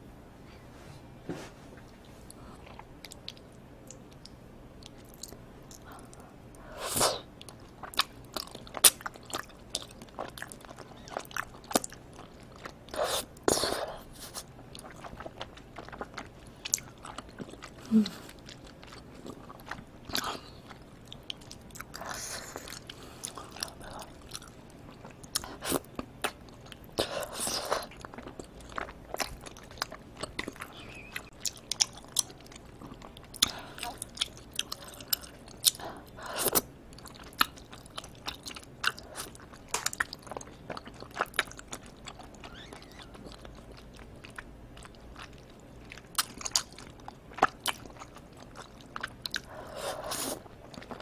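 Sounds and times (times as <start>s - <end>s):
wet chewing and mouth clicks: 2.3s - 6.3s, 7.3s - 13.6s, 14.2s - 51.0s.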